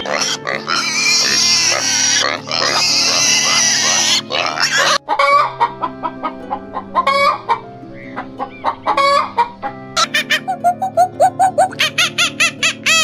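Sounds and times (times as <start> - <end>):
background music with held notes: 0.0 - 13.0
chickens clucking: 0.0 - 13.0.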